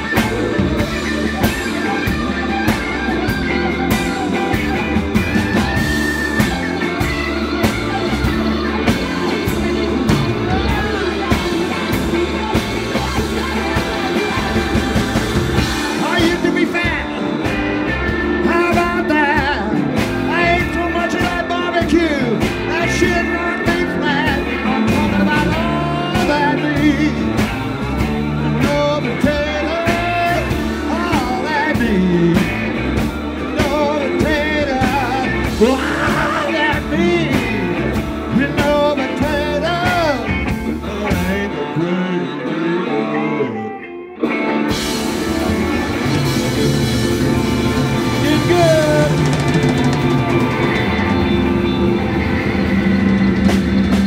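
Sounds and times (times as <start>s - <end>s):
blues-rock band playing: 0.0s - 54.0s
electric guitar lead: 0.0s - 54.0s.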